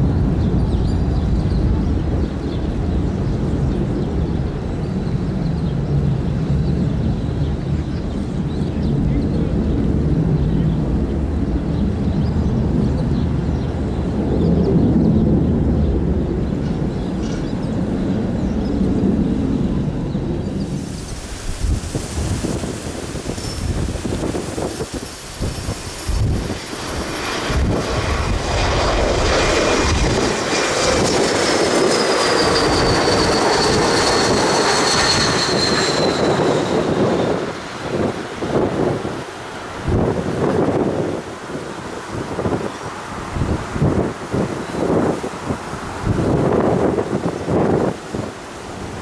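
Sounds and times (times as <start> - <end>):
aircraft engines rumbling: 0.0 - 49.0
wind buffeting microphone: 0.0 - 49.0.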